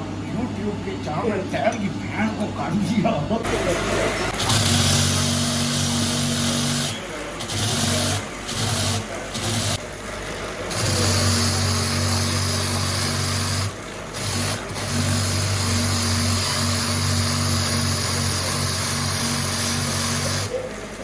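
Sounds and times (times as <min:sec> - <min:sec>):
motor-driven machine humming: 0:03.3 - 0:21.0.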